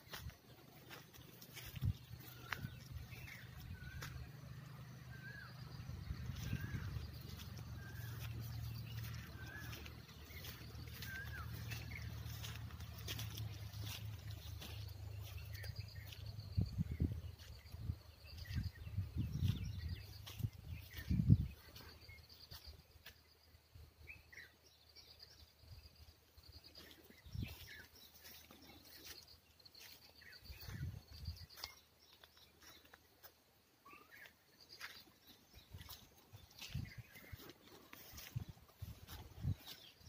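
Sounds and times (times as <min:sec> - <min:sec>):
birds chirping faintly: 0:00.0 - 0:40.0.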